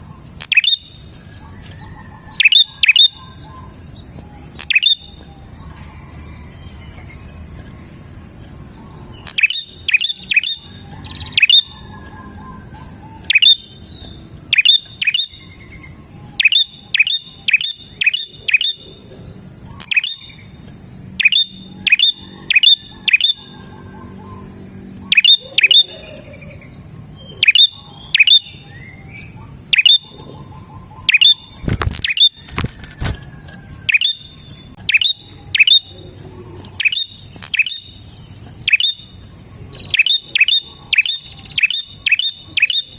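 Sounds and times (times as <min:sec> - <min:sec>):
bird chirping: 0:00.0 - 0:32.6, 0:33.7 - 0:42.9.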